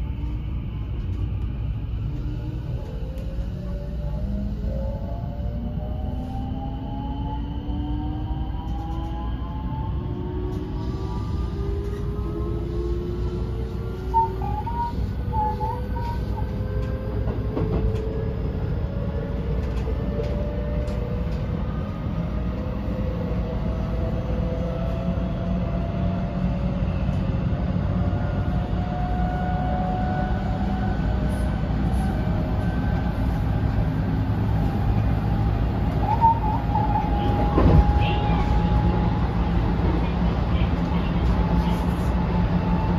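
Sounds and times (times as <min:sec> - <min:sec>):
wheels rumbling on rail: 0:00.0 - 0:42.9.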